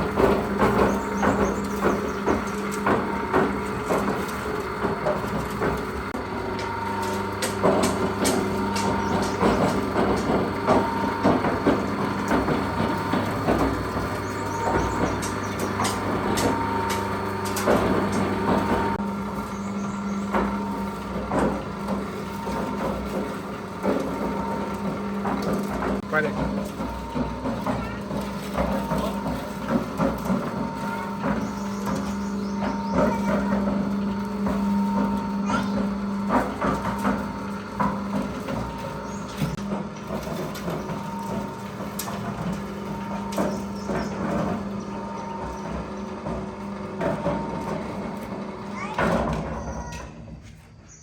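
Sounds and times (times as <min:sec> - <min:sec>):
drum knocking and clattering: 0:00.0 - 0:50.2
concrete mixer motor hum: 0:00.0 - 0:51.0.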